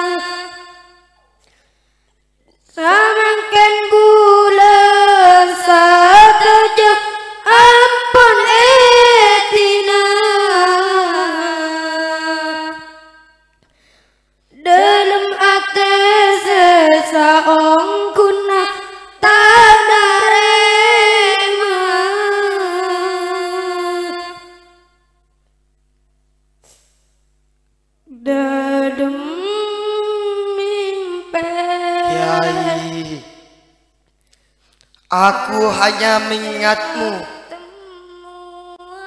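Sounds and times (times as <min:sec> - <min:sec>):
boy singing a cappella: 0:00.0 - 0:01.2, 0:02.6 - 0:13.4, 0:14.5 - 0:24.9, 0:28.1 - 0:33.6, 0:35.1 - 0:39.0.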